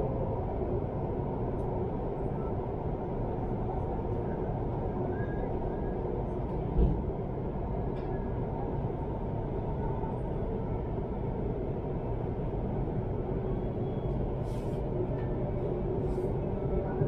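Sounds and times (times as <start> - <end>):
train rumbling from inside: 0.0 - 17.0.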